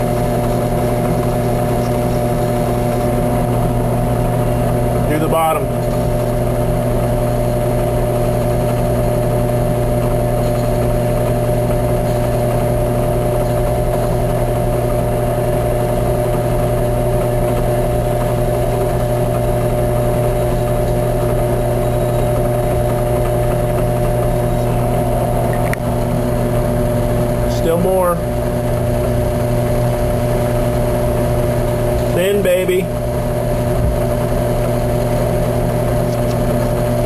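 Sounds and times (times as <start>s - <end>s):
drill press motor humming: 0.0s - 37.0s.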